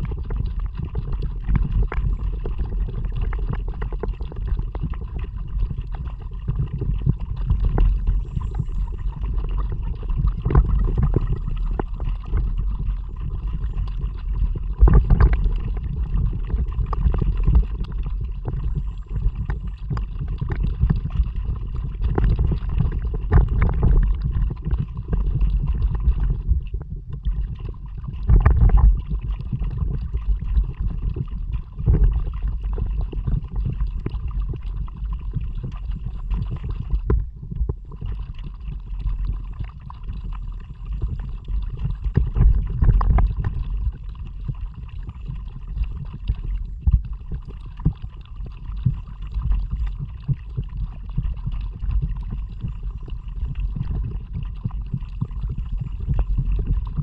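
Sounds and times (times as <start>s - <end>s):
water gurgling and splashing: 0.0s - 57.0s.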